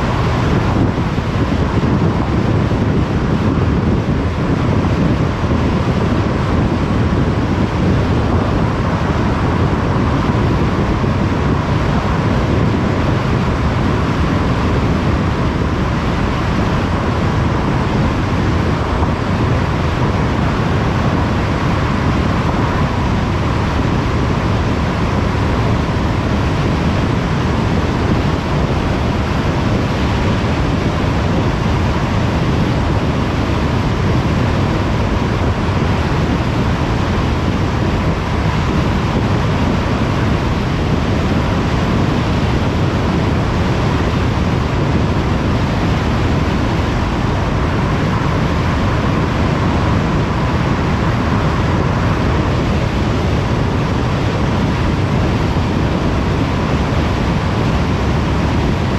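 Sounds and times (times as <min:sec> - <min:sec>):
tyre and wind noise: 0:00.0 - 0:58.9.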